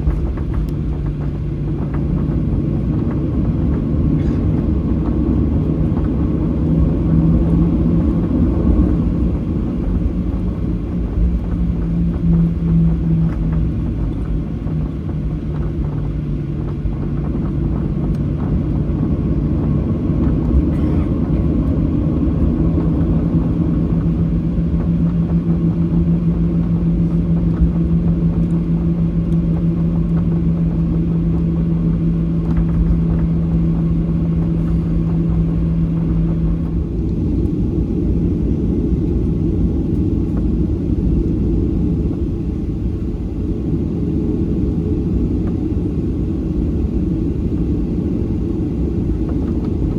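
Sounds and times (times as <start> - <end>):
jet engine cabin rumble: 0.0 - 49.9
low engine hum: 0.0 - 49.9.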